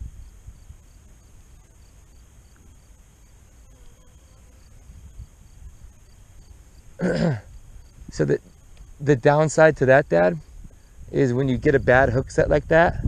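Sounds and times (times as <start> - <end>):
insect chirps: 0.0 - 13.0
insects trilling: 0.0 - 13.0.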